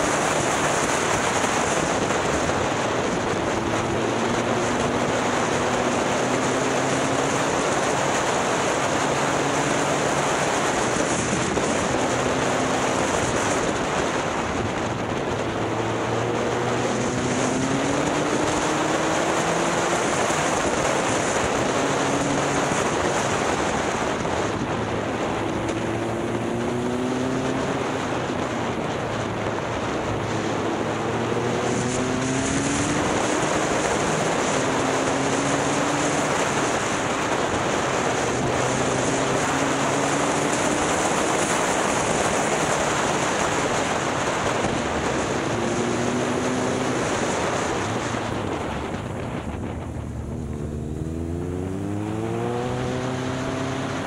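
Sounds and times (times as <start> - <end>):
motorcycle engine revving: 0.0 - 54.0
wind rushing over microphone: 0.0 - 54.0.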